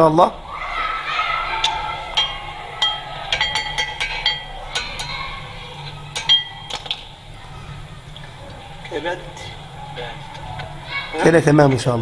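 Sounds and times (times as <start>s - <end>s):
metal clips clinking: 1.6s - 11.2s.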